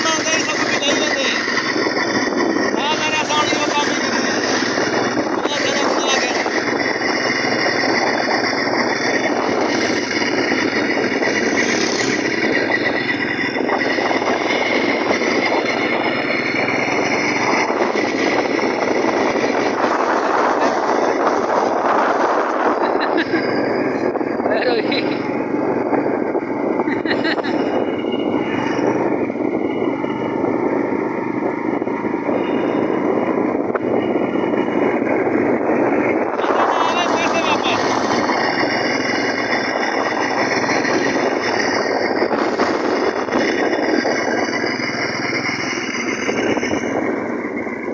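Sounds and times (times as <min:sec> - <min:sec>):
small bicycle engine rattling: 0:00.0 - 0:47.9.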